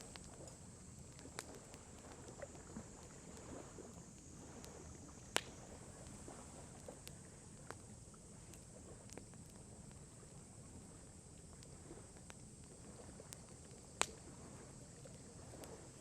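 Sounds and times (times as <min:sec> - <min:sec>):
campfire pops: 0:00.0 - 0:16.0
soft hiss of fire: 0:00.0 - 0:16.0.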